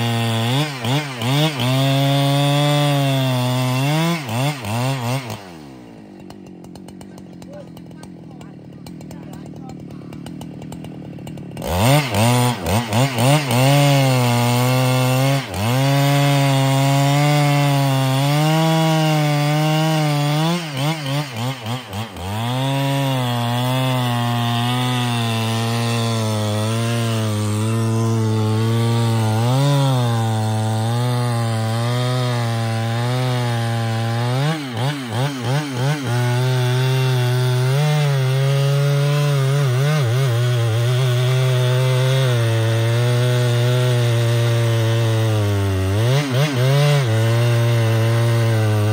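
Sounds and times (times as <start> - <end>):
chainsaw cutting at full throttle: 0.0 - 48.9
chainsaw throttle blips: 0.0 - 48.9.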